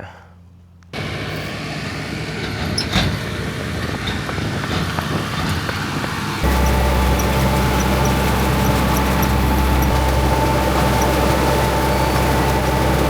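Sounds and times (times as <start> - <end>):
heavy vehicle engine rattling: 1.0 - 13.0.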